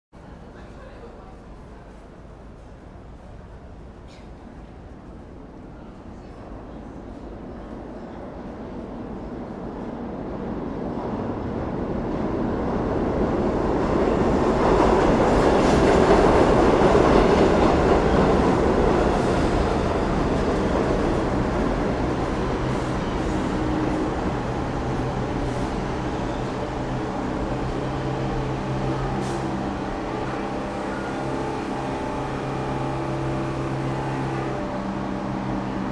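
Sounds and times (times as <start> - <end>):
subway train rumbling on rails: 0.2 - 35.9.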